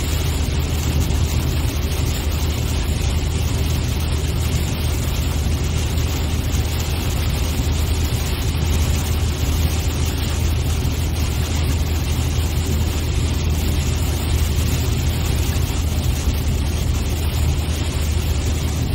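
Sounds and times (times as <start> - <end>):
engine and road rumble: 0.0 - 18.9.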